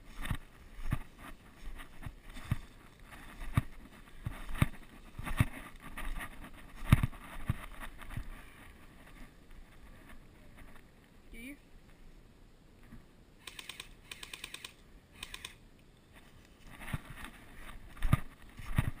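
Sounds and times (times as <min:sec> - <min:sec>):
rustling grass and branches: 0:00.0 - 0:19.0.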